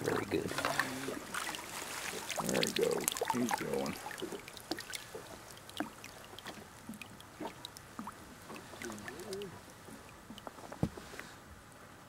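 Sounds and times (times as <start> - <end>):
water splashing against boat: 0.0 - 11.5.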